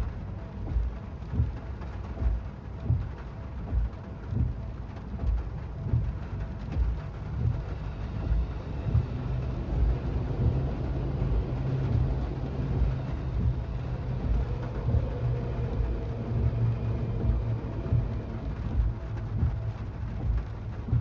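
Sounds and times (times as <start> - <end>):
low rumble inside car cabin: 0.0 - 21.0
rain on car: 0.0 - 21.0
windshield wipers sweeping: 0.0 - 21.0.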